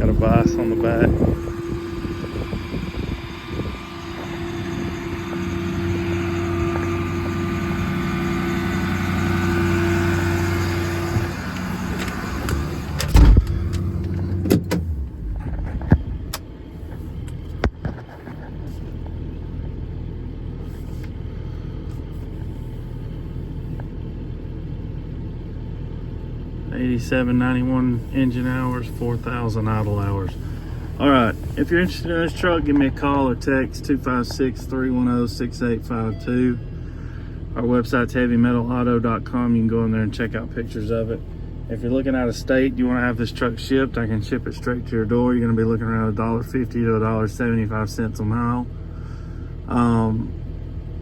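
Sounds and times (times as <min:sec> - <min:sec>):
diesel engine humming: 0:00.0 - 0:51.0.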